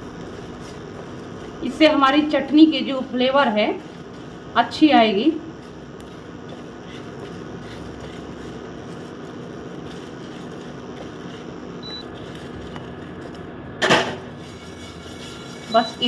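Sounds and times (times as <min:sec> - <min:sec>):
cooling fan humming: 0:00.0 - 0:16.0
spatula scraping pan: 0:00.5 - 0:12.6, 0:14.4 - 0:16.0.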